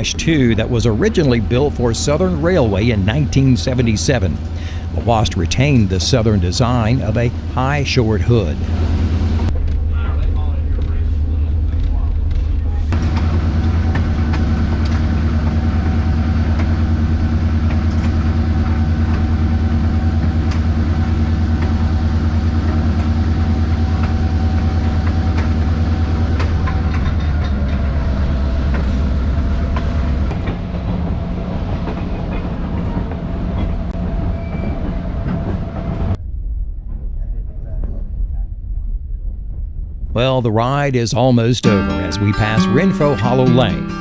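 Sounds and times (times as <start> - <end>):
diesel locomotive engine humming: 0.0 - 36.2, 40.2 - 44.0.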